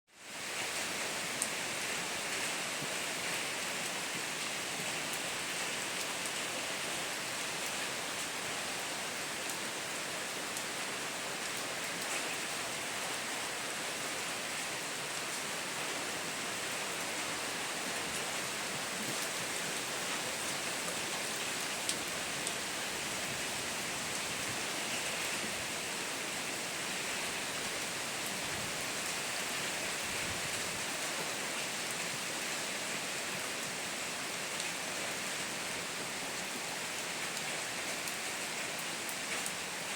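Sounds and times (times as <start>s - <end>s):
steady rain hiss: 0.1s - 39.9s.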